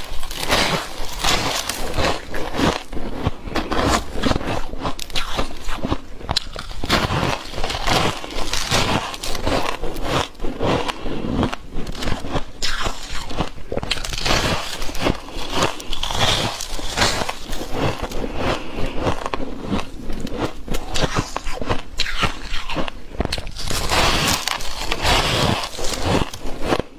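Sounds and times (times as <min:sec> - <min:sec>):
ice crunching while eating: 0:00.0 - 0:26.9.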